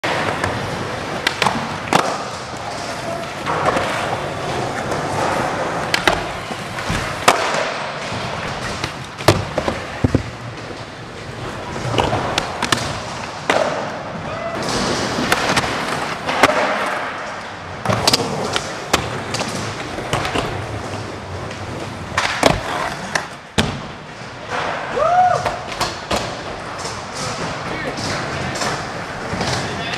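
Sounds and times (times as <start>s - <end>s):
skateboard clacks and landing slaps: 0.0s - 10.5s, 11.8s - 20.7s, 21.4s - 29.9s
skateboard wheels rolling: 0.0s - 29.9s.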